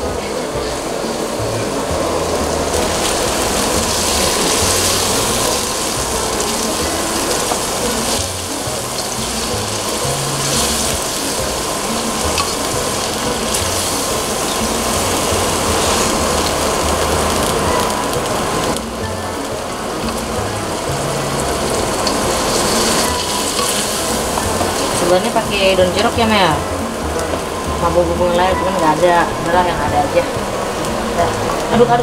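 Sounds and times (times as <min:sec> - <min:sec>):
squid sizzling in a wok: 0:00.0 - 0:32.0.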